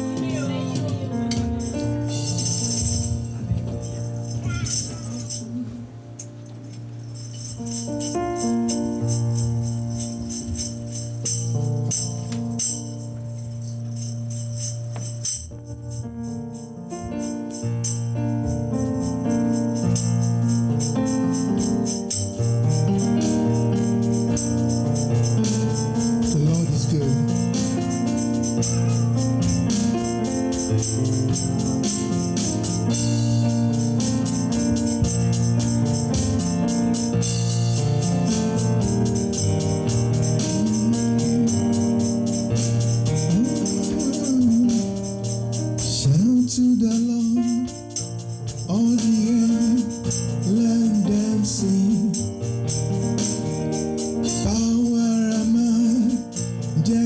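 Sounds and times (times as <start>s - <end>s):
fast tambourine jingle: 0.0s - 57.0s.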